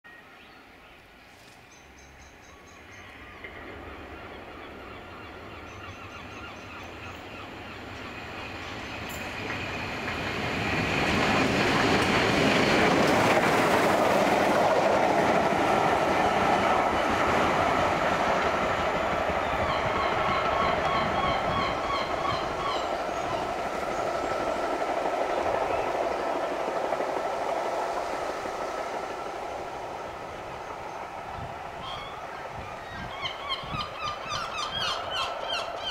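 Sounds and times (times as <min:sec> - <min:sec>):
steam locomotive passing: 0:00.3 - 0:35.9.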